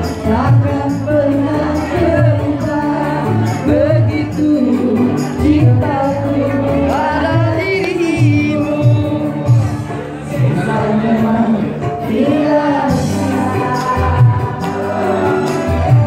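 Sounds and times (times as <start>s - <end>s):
backing music with steady beat: 0.0s - 16.0s
women singing: 0.0s - 16.0s.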